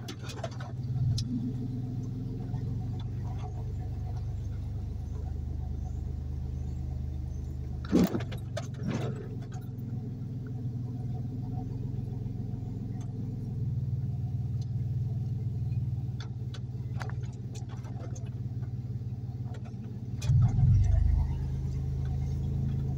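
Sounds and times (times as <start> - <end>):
car engine and tyre hum: 0.0 - 22.9.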